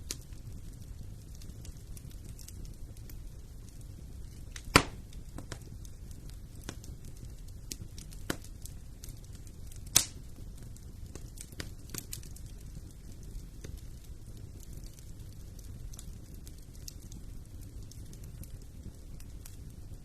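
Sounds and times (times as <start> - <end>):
loud pops from fire: 0.0 - 20.0
wood fire crackling: 0.0 - 20.0.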